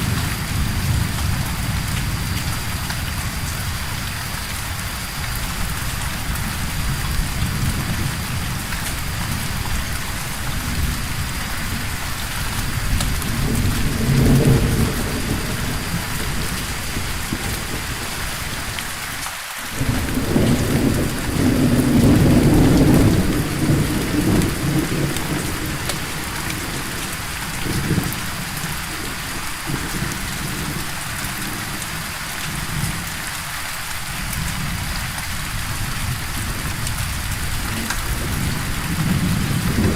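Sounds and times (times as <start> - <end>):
rolling thunder: 0.0 - 19.0, 19.7 - 33.2, 34.3 - 39.9
steady rain: 0.0 - 39.9.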